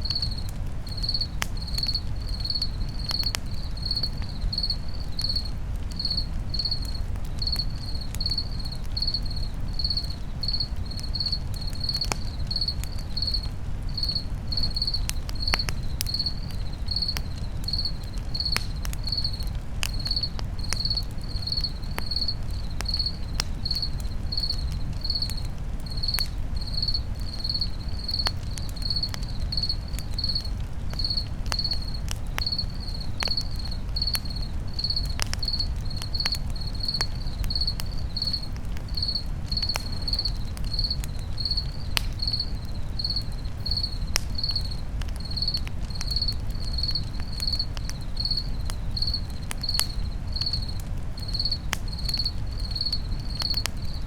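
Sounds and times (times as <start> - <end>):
campfire crackling: 0.0 - 54.0
cricket chirping: 0.0 - 54.0.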